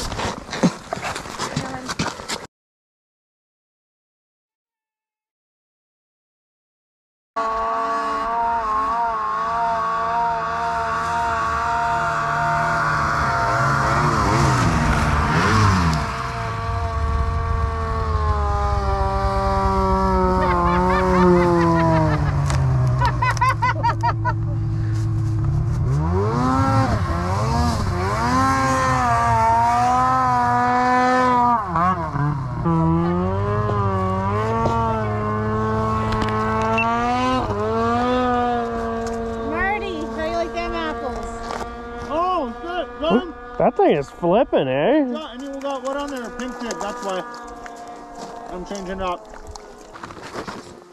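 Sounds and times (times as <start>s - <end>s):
snowmobile engine running: 7.4s - 50.9s
snowmobile revving past: 7.4s - 50.9s.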